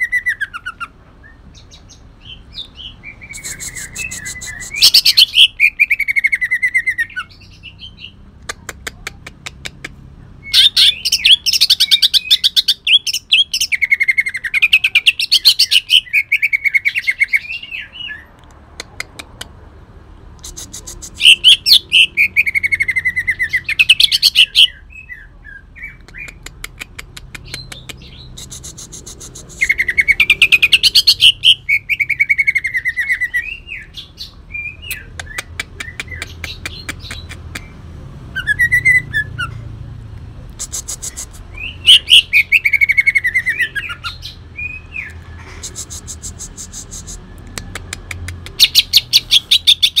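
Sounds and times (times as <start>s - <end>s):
bird singing harsh staccato runs: 0.0s - 17.7s, 20.4s - 25.0s, 25.8s - 39.5s, 40.6s - 50.0s.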